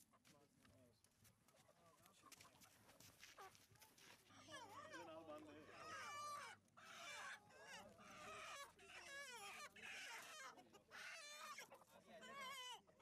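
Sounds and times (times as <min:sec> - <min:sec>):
chickens clucking: 0:01.5 - 0:13.0.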